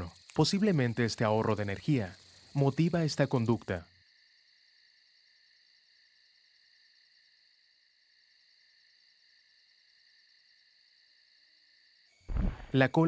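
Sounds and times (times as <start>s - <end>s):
crickets chirring: 0.0s - 13.0s
pulsing insect trill: 0.0s - 13.0s.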